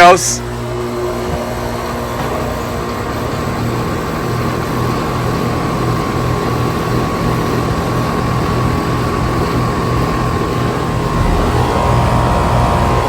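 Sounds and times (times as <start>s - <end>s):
compressor pulsing hum: 0.0s - 13.0s
fan rush of air: 0.0s - 13.0s
steady whine: 0.0s - 13.0s.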